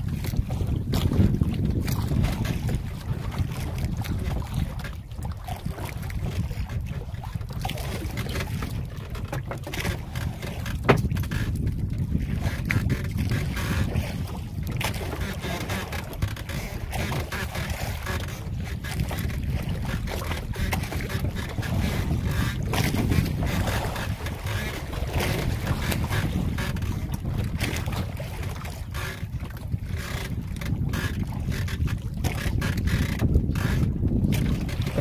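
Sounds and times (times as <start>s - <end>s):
boat motor rumbling: 0.0s - 35.0s
wind on microphone: 0.0s - 35.0s.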